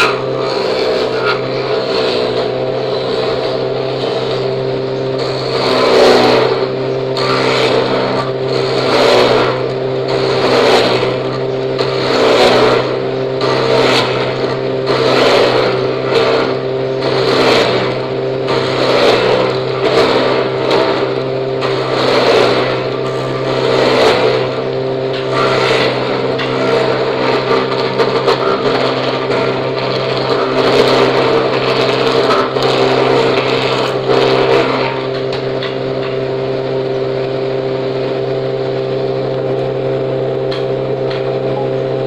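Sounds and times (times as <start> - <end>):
electric planer motor hum: 0.0 - 42.0
planer rasping: 0.0 - 42.0.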